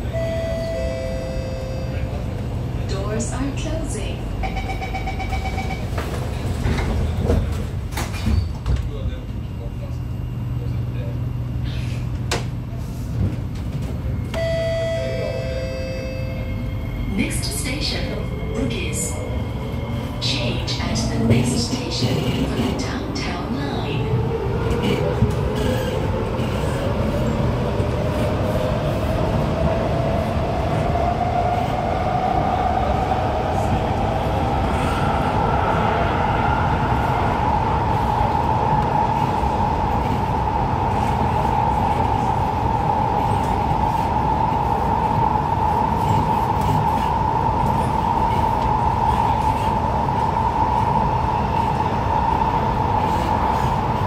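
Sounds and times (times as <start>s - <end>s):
wheels rumbling on rails: 0.0s - 54.0s.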